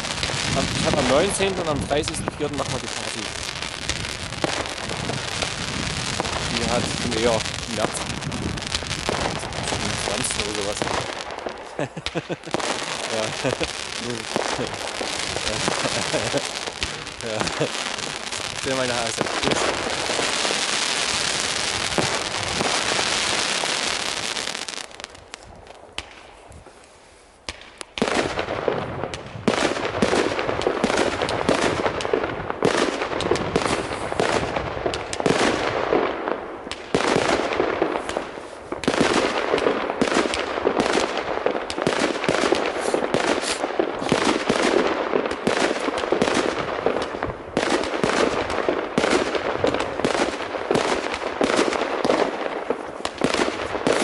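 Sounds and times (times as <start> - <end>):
fireworks bangs and crackles: 0.0 - 54.0
fireworks hissing crackle: 0.0 - 54.0.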